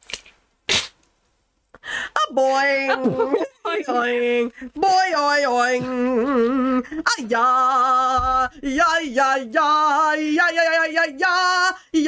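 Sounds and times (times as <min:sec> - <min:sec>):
person singing yodel-like syllables: 0:02.2 - 0:12.0.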